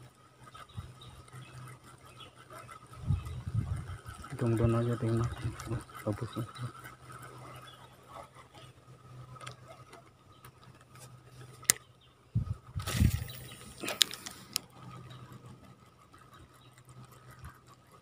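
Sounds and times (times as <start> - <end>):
fishing reel ticking: 0.0 - 18.0
camera rubbing against clothing: 0.4 - 11.7, 12.4 - 18.0.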